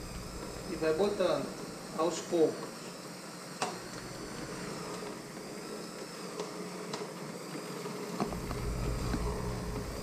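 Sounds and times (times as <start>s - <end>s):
electric hand mixer buzzing: 0.0s - 10.0s.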